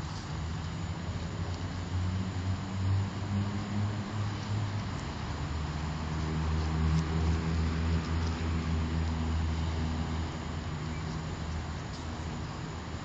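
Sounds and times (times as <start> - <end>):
engine humming: 0.0 - 13.0
outdoor noise hiss: 0.0 - 13.0.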